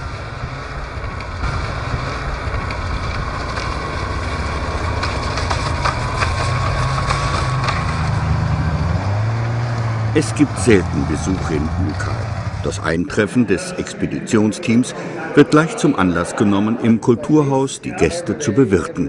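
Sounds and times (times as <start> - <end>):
over-snow vehicle engines rumbling: 0.0 - 19.0.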